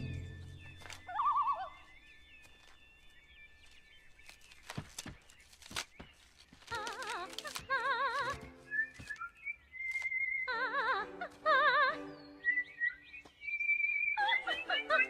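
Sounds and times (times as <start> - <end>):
faint chirping: 0.0 - 11.0, 11.7 - 15.0.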